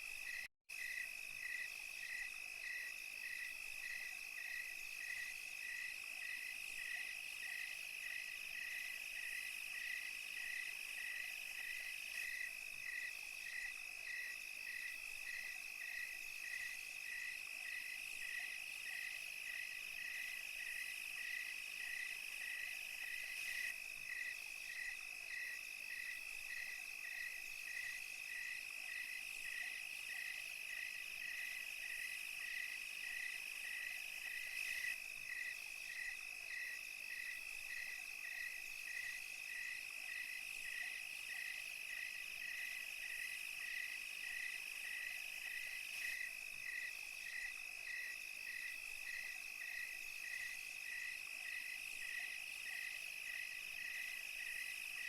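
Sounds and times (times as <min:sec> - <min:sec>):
cricket chirping: 0:00.0 - 0:55.0
insects trilling: 0:00.2 - 0:55.0.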